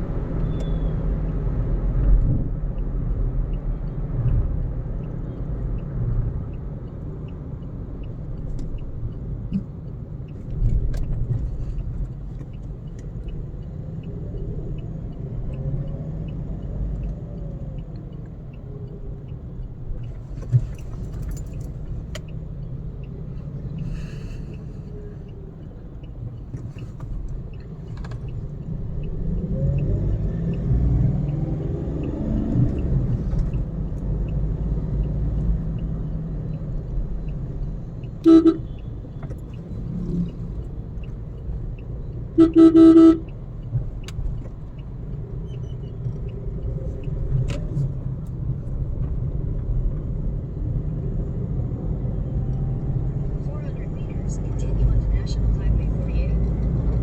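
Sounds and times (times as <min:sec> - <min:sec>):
car engine and road rumble: 0:00.0 - 0:57.0
faint regular ticking: 0:02.0 - 0:56.6.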